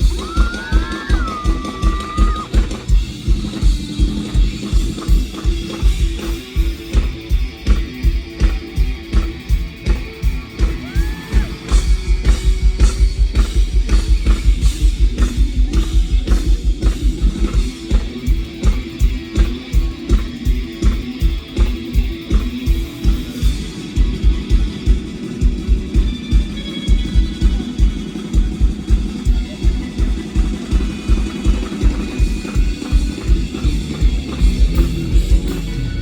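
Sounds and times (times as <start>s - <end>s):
guitar: 0.0s - 36.0s.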